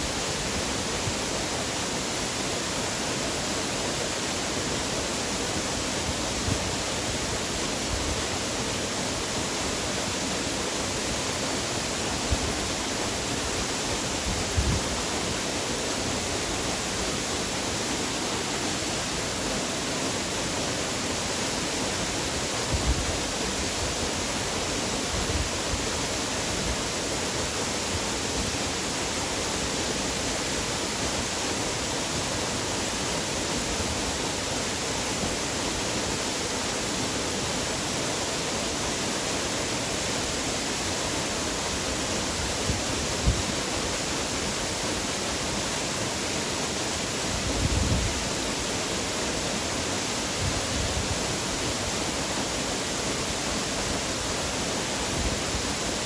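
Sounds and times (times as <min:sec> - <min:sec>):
waterfall rushing water: 0:00.0 - 0:56.0.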